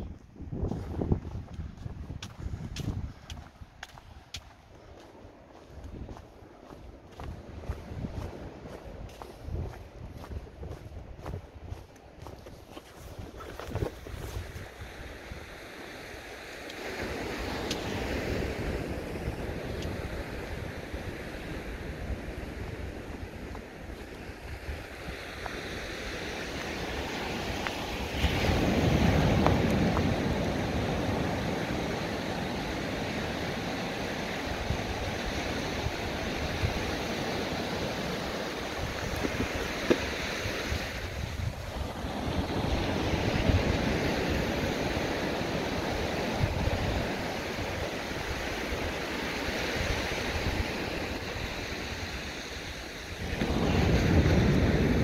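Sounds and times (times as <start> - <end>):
waves breaking on beach: 0.0 - 55.0
wind buffeting microphone: 0.0 - 55.0.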